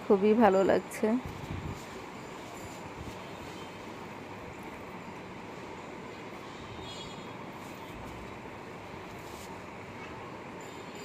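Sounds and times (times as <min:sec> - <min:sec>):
distant city traffic hum: 0:00.0 - 0:11.0.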